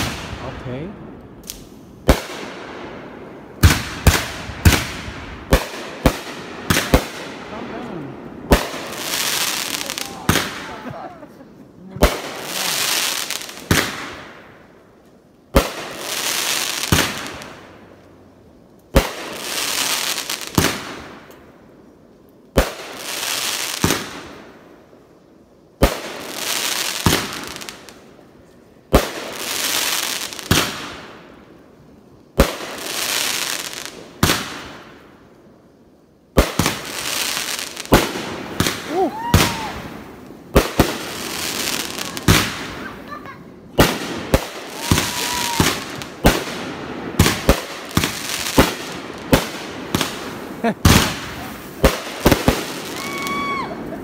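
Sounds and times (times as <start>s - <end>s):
fireworks bangs: 0.0s - 14.8s, 15.5s - 17.9s, 18.9s - 21.4s, 22.5s - 24.5s, 25.8s - 28.0s, 28.9s - 31.4s, 32.3s - 35.2s, 36.3s - 54.0s
firework hiss: 3.6s - 18.0s, 18.9s - 21.4s, 22.5s - 54.0s.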